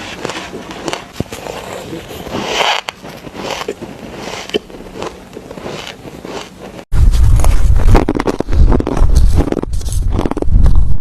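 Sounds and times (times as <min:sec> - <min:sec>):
chewing crunchy ice: 0:00.0 - 0:06.9, 0:07.7 - 0:10.8.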